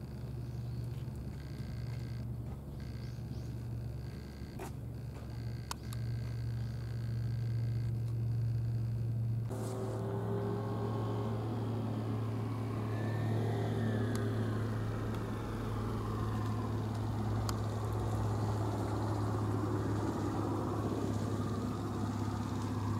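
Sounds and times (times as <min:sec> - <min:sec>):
engine idling hum: 0:00.0 - 0:22.9.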